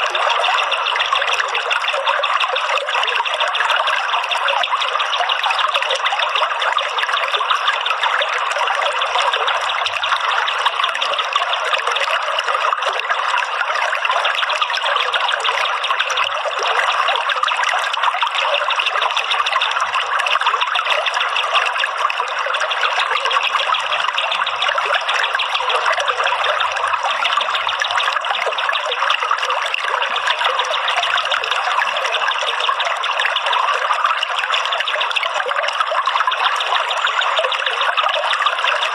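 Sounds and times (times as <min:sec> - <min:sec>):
trickling running water: 0:00.0 - 0:38.9.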